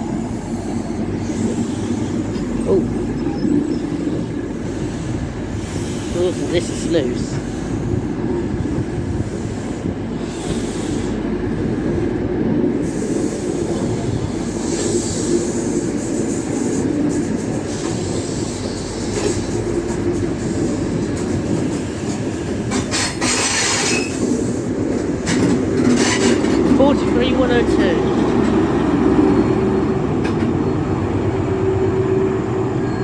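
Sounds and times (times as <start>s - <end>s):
diesel train drone: 0.0s - 33.0s
wheel-on-rail noise: 0.0s - 33.0s.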